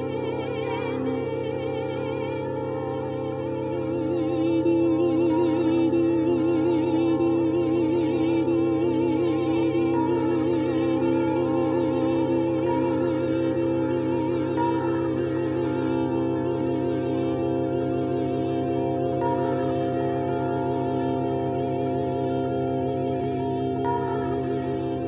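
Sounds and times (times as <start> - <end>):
held drone tones: 0.0 - 25.0
person singing with vibrato: 0.0 - 25.0.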